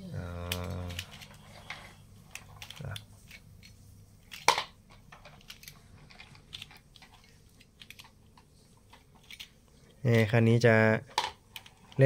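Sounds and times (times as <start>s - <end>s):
plastic toys clicking and knocking: 0.5s - 12.0s.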